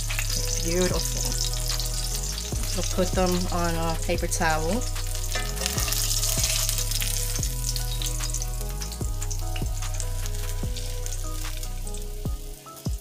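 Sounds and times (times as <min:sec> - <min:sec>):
oil sizzling in a skillet: 0:00.0 - 0:13.0.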